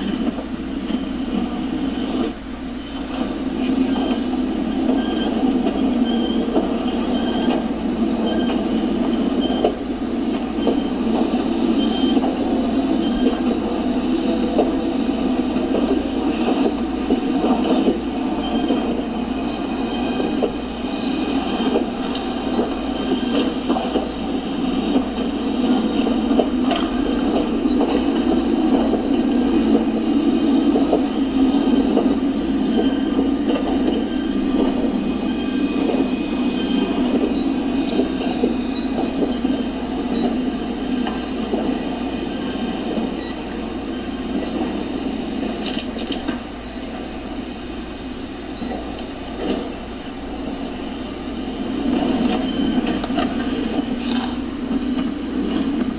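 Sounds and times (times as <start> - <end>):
wheels clicking on rails: 2.2 - 47.0.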